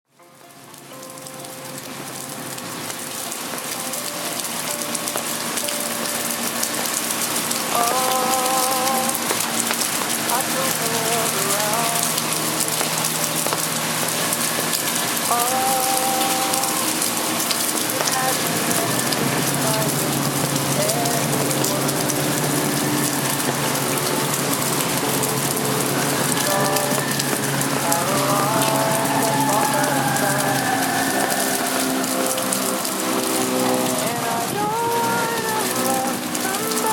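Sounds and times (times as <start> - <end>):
rain pattering: 0.1 - 36.9
wavering multi-tone sound: 0.8 - 36.9.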